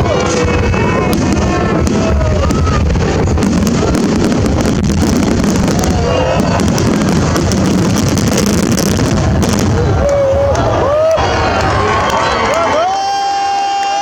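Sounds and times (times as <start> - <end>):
low rumble of bangs: 0.0 - 12.2
fireworks crackling and popping: 0.0 - 14.0.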